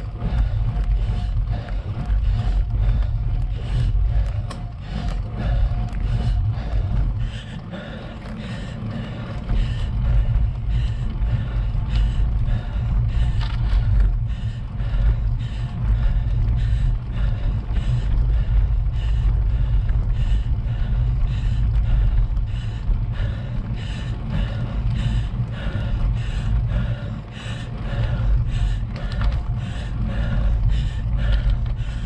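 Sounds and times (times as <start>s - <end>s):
bicycle tyres rumbling: 0.0s - 32.0s
person breathing hard: 0.0s - 32.0s.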